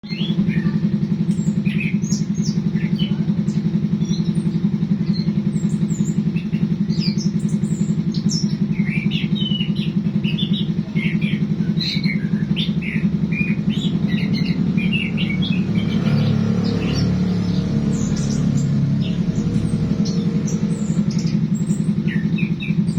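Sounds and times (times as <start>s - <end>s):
pulsing low motor hum: 0.0s - 22.9s
small birds chirping: 0.0s - 22.9s.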